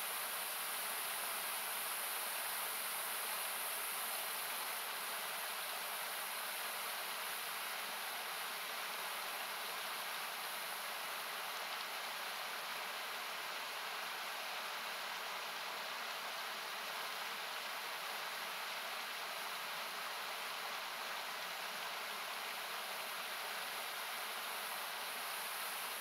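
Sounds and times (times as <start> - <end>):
rushing river water: 0.0 - 26.0.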